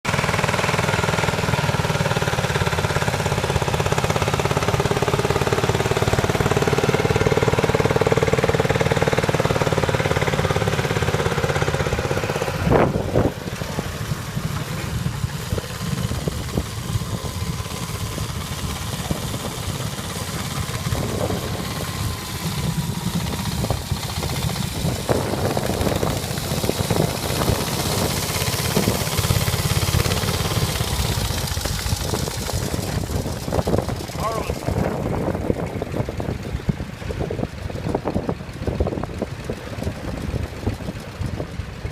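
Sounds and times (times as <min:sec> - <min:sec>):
tractor engine chugging: 0:00.1 - 0:41.9.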